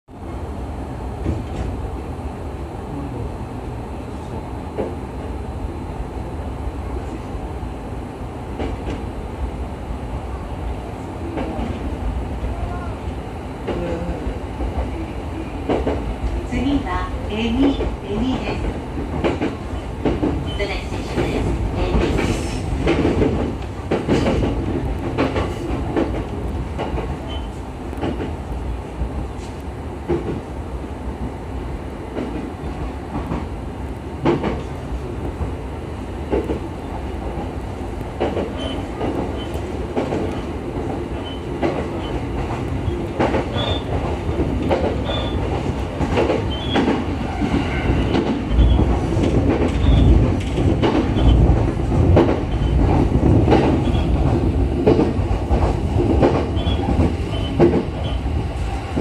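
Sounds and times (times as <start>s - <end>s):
train wheel and motor noise: 0.1s - 59.0s.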